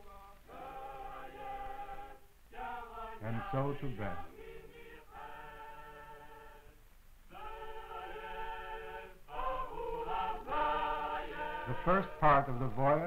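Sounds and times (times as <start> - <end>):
choir singing held notes: 0.0 - 13.0.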